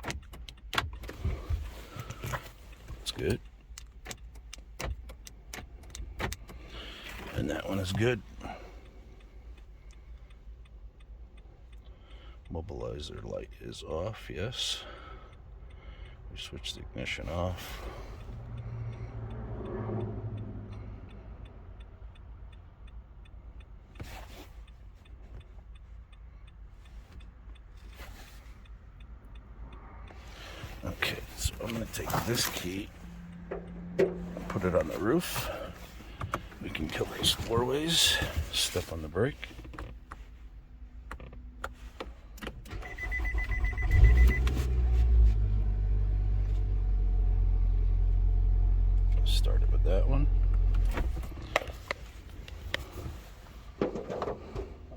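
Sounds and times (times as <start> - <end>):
car engine cranking and idling: 0.0 - 54.9.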